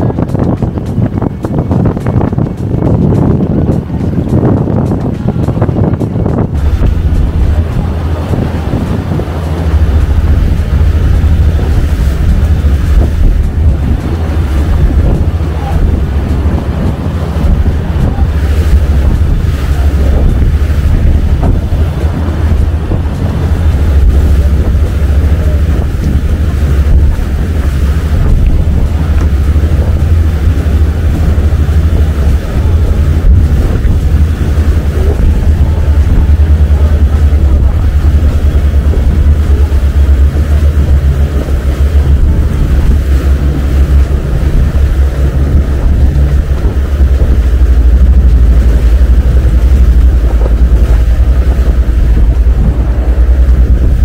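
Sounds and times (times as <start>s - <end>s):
boat engine: 0.0s - 54.0s
water rushing past hull: 0.0s - 54.0s
wind buffeting microphone: 0.0s - 54.0s.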